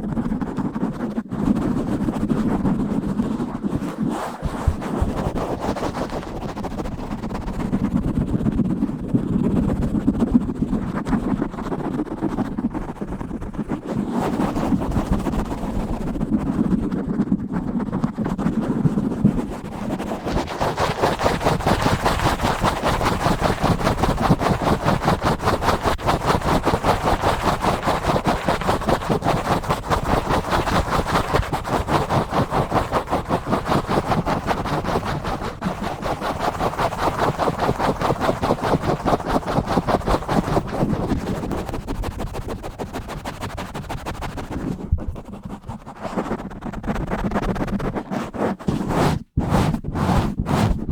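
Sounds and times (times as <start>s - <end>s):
scratching on a microphone: 0.0s - 50.9s.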